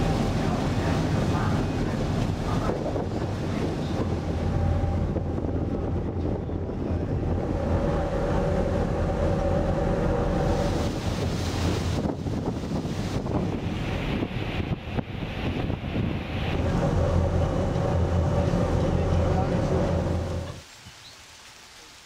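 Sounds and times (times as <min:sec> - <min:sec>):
ship engines droning: 0:00.0 - 0:20.6
wind buffeting microphone: 0:00.0 - 0:20.6
water washing along hull: 0:00.0 - 0:22.0.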